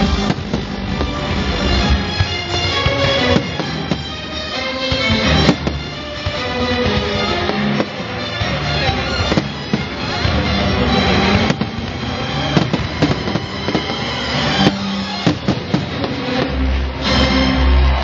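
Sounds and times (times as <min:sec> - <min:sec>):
fireworks bangs and crackles: 0:00.0 - 0:17.0
music: 0:00.0 - 0:18.0.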